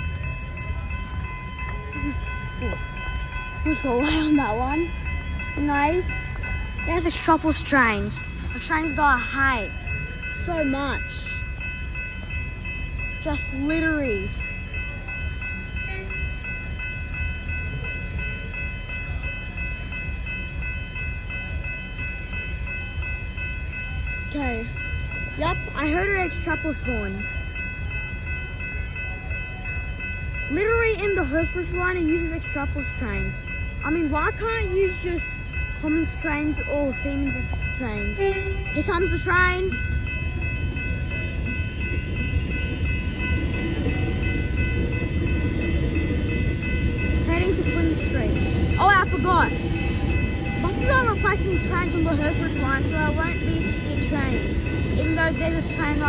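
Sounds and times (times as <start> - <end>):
electric train rumbling: 0.0 - 56.0
level crossing warning bells: 0.0 - 56.0.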